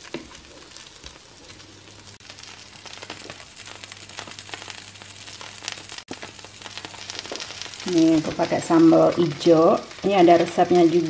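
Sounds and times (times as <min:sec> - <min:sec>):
dumplings sizzling in pan: 0:00.0 - 0:11.0.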